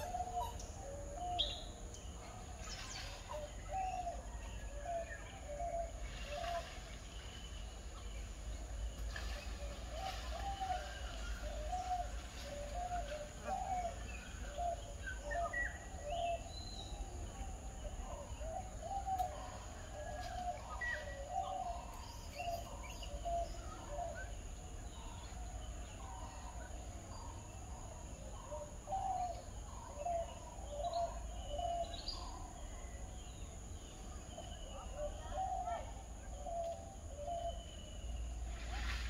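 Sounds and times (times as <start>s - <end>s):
low steady background rumble: 0.0s - 39.0s.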